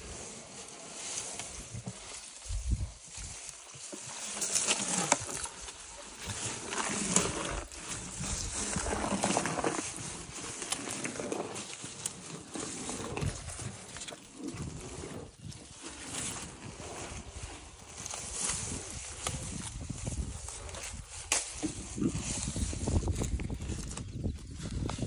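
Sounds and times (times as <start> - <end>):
grass stalks rustling and crackling: 0.0 - 25.0
elephant chewing: 3.6 - 23.8.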